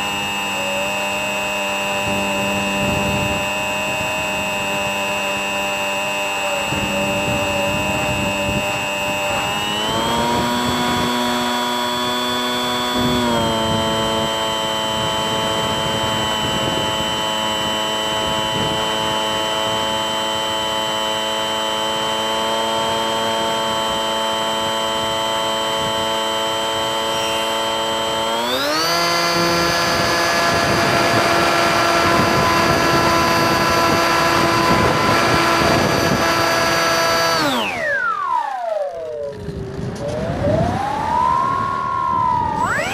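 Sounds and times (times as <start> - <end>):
electric motor propeller whining: 0.0 - 42.9.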